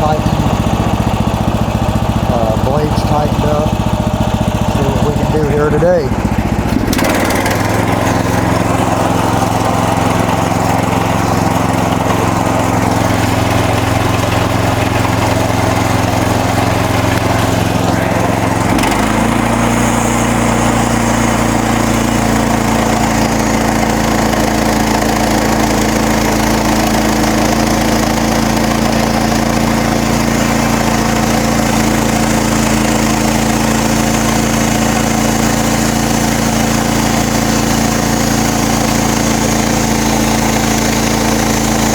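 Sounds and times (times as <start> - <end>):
sawmill gasoline engine running: 0.0 - 41.9.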